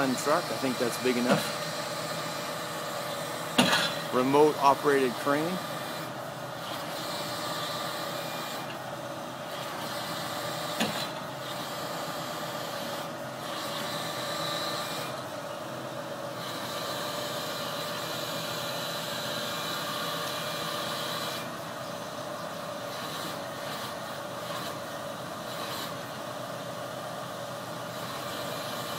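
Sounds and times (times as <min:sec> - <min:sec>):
truck engine and hydraulic crane: 0:00.0 - 0:28.9.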